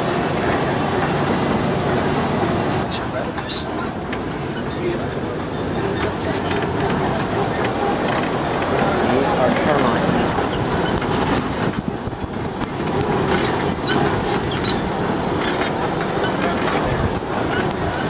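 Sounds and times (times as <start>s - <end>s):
truck engine and tyres rumbling: 0.0s - 18.0s
vehicle body rattling and knocking: 0.0s - 18.0s.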